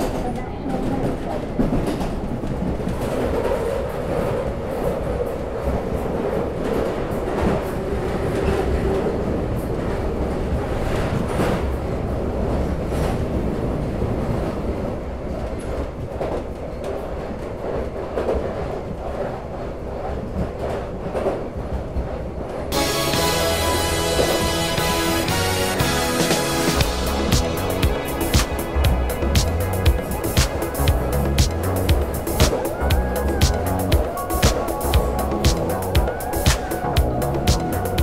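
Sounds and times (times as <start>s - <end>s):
subway train rumble: 0.0s - 38.0s.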